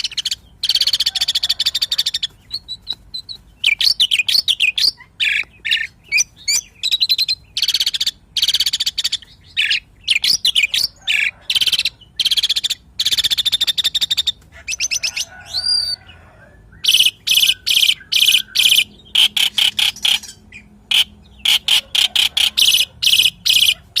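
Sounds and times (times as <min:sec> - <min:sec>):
starling singing: 0:00.0 - 0:24.0.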